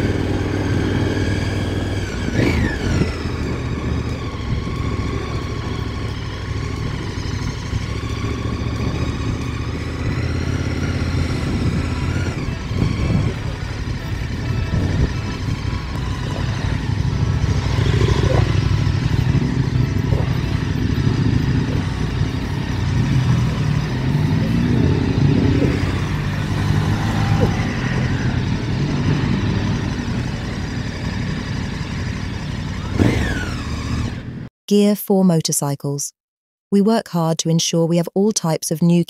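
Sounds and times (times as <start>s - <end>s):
motorcycle engine running: 0.0s - 34.5s.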